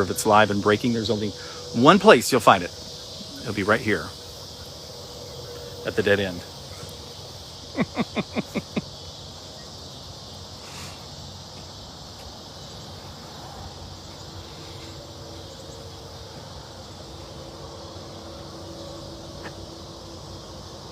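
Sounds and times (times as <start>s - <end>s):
insect chorus buzzing: 0.0s - 20.9s.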